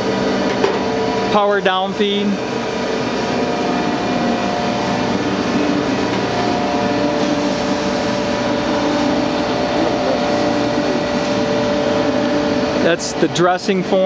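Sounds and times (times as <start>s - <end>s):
surface grinder machine hum: 0.0s - 14.0s.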